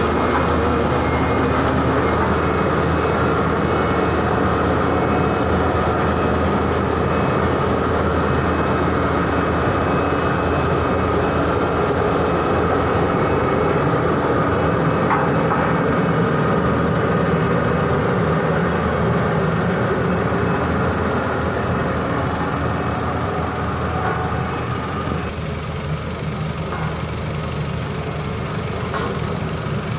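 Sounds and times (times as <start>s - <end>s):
heavy vehicle engine running: 0.0s - 29.9s
traffic rumble: 0.0s - 29.9s.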